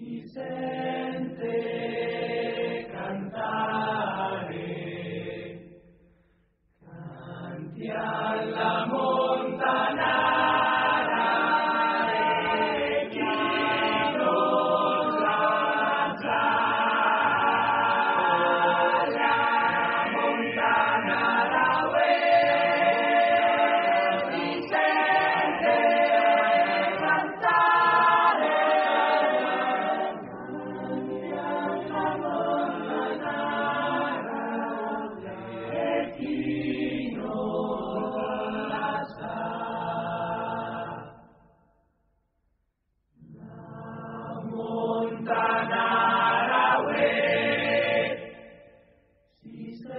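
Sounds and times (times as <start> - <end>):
choir singing held chords: 0.0 - 41.6, 43.2 - 49.9.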